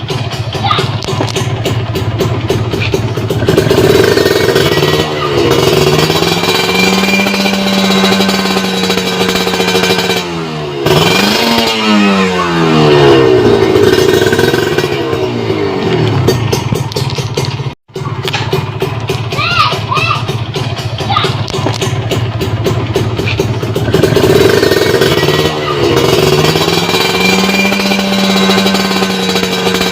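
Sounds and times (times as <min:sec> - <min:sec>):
two-stroke motorcycle engine revving: 0:00.0 - 0:29.9.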